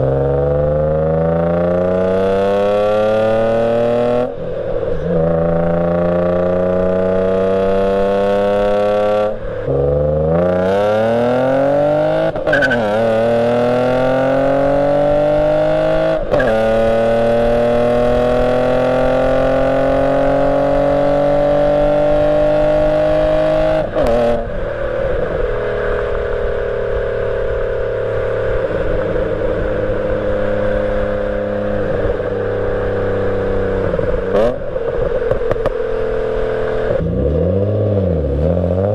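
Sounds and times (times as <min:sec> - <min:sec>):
car engine accelerating with upshifts: 0:00.0 - 0:38.9.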